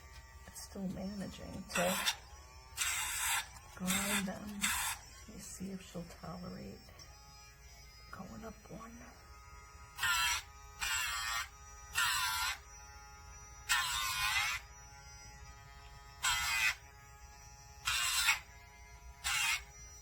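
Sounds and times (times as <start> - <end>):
grinder grinding nails: 0.0 - 8.9, 9.7 - 20.0
nail grinder motor buzzing: 0.0 - 20.0.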